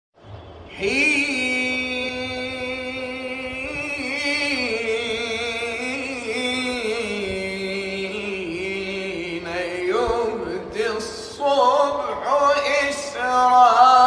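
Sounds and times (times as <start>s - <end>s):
man chanting: 0.7s - 14.0s.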